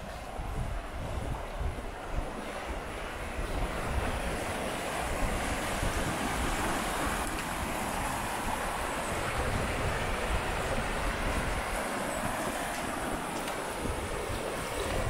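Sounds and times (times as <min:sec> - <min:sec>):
wind rumble on microphone: 0:00.0 - 0:15.0
creek rushing over rocks: 0:00.3 - 0:15.0.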